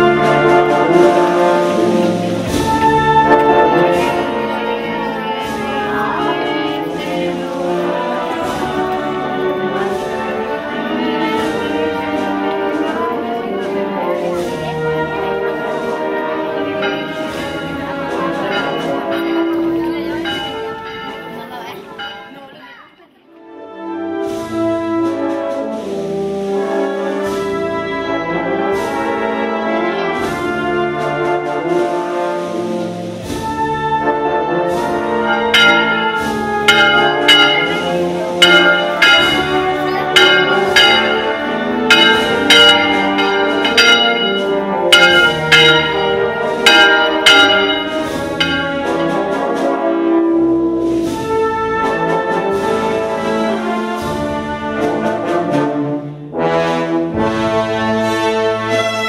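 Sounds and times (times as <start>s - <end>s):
brass chords: 0.0s - 22.0s, 23.6s - 59.0s
percussion strikes: 0.0s - 22.8s, 24.2s - 29.4s, 30.0s - 55.7s.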